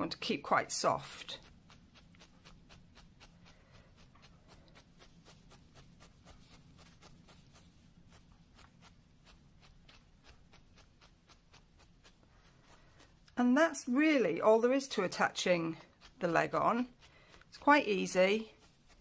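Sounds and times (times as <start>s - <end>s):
felting needle stabbing wool: 0.0s - 19.0s.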